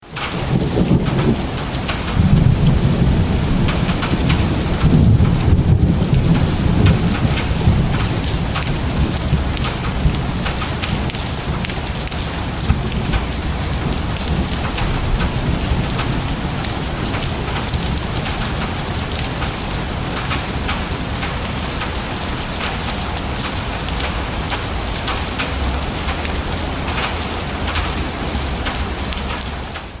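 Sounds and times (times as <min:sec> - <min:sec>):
heavy rain: 0:00.0 - 0:30.0
thunder rumbling: 0:00.1 - 0:30.0.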